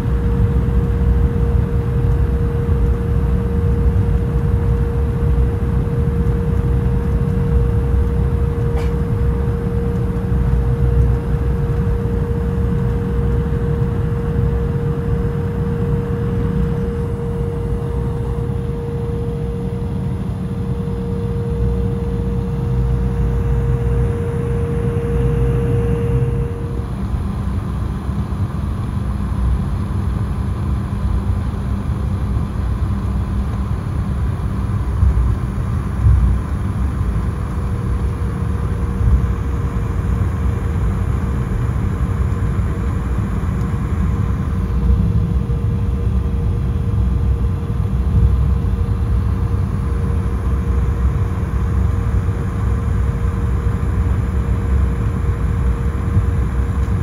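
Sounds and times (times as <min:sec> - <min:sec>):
jet cabin rumble: 0:00.0 - 0:57.0
thin steady hum: 0:00.0 - 0:57.0.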